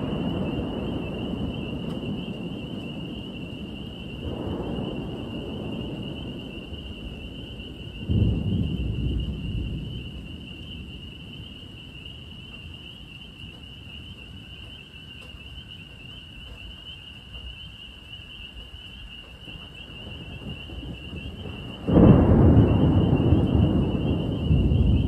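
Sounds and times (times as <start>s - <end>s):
chorus of night animals calling: 0.0s - 25.0s
thunder rumbling: 0.0s - 25.0s.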